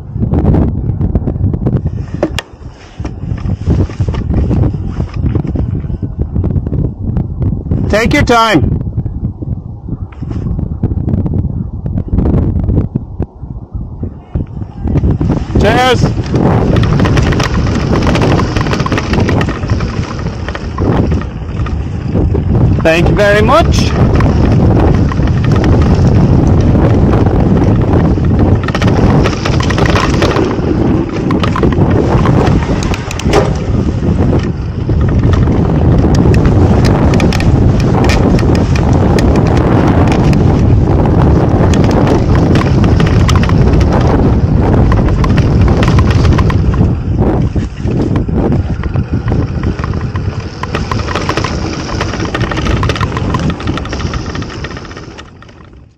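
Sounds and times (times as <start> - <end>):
wind buffeting microphone: 0.0 - 55.9
bike tyre crunch on dirt: 1.4 - 8.2, 14.5 - 55.9
bike clicks and rattles: 1.6 - 8.2, 14.4 - 55.9.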